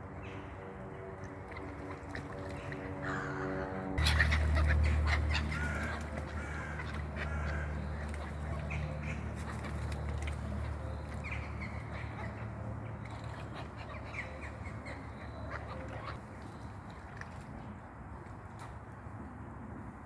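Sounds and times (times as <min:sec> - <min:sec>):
gulls and birds calling: 0:00.0 - 0:17.8.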